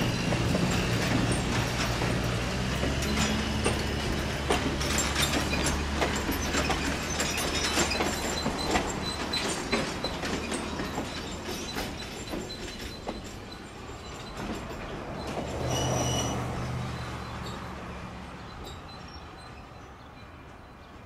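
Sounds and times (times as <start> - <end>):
high wheel squeal: 0.0 - 21.0
train wheels clicking over rails: 0.0 - 21.0.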